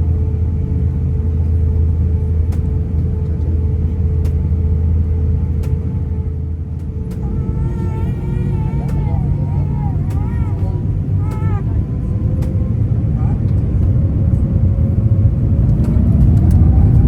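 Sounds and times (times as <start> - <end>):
aircraft cabin low rumble: 0.0 - 17.0
constant hum: 0.0 - 17.0.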